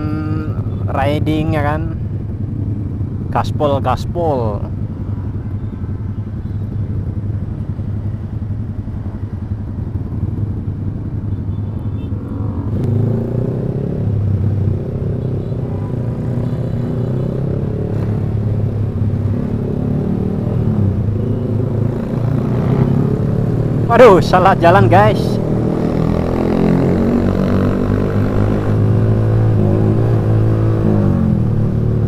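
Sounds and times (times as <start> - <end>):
motorcycle engine through loud exhaust: 4.1 - 32.0.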